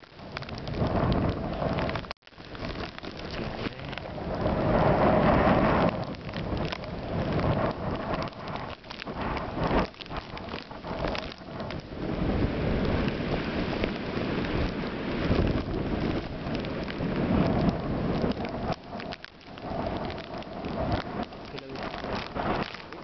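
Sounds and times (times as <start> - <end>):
gusty wind buffeting microphone: 0.0 - 23.0.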